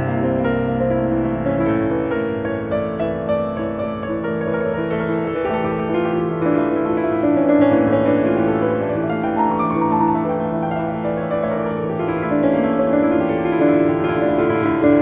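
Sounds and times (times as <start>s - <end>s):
slow piano background music: 0.0s - 15.0s.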